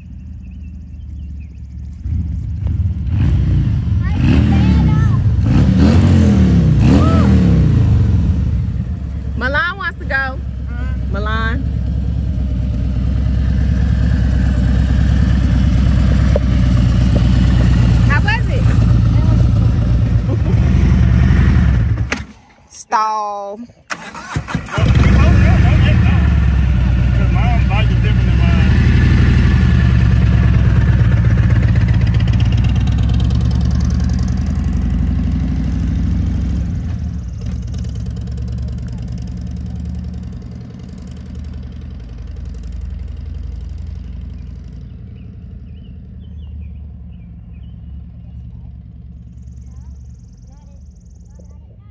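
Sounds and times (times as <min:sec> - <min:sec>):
motorcycle engine at low revs: 0:00.0 - 0:22.7, 0:23.9 - 0:51.9.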